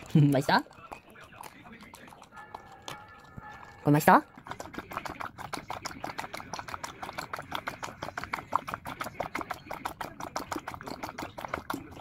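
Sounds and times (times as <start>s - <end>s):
dog eating with wet clicks: 0.0s - 12.0s.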